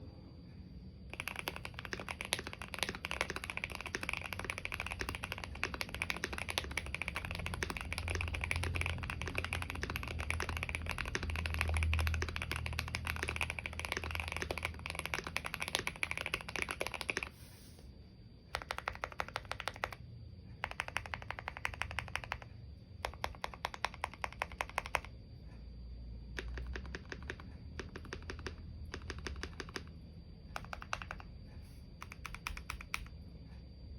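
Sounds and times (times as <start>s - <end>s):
typing on mechanical keyboard: 1.1s - 17.4s, 18.5s - 20.0s, 20.6s - 25.2s, 26.4s - 31.4s, 32.0s - 33.2s.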